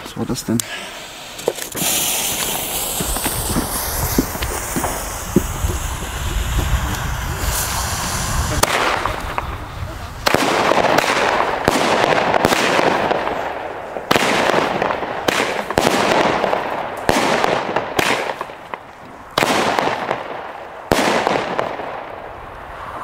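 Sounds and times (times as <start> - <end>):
firework hiss: 0.6 - 23.0
firework bangs: 0.9 - 23.0.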